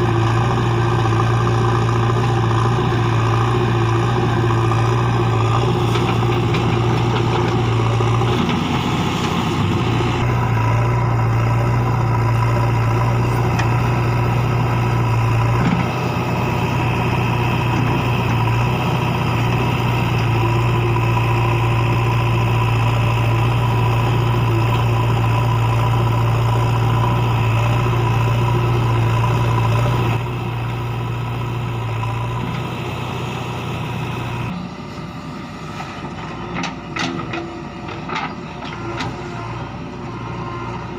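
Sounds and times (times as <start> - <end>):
heavy diesel machinery running: 0.0 - 40.9.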